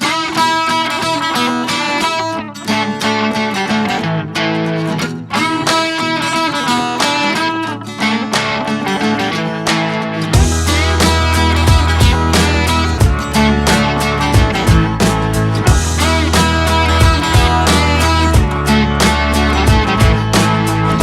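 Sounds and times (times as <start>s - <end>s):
guitar music: 0.0s - 21.0s.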